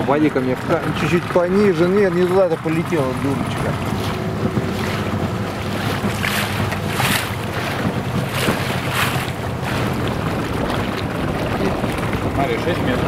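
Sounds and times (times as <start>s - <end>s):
boat motor running: 0.0s - 13.0s
water rushing against hull: 0.0s - 13.0s
water splashes: 0.0s - 13.0s
wind on microphone: 0.0s - 13.0s.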